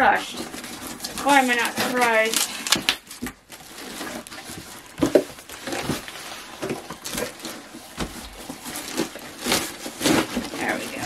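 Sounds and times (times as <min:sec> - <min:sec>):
cardboard scraping and tearing: 0:00.0 - 0:11.0.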